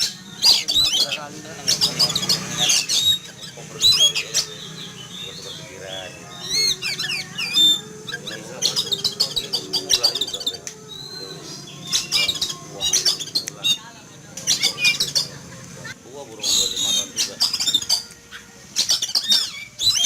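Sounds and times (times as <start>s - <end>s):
bird singing whistled notes: 0.0s - 20.0s.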